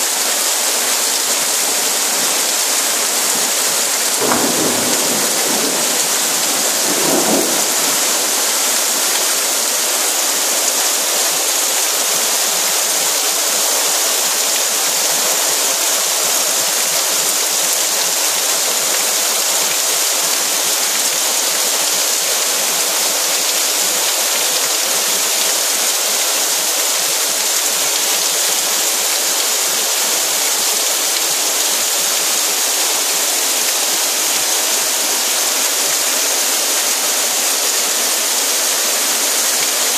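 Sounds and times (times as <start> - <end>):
heavy rain on paving: 0.0 - 39.9.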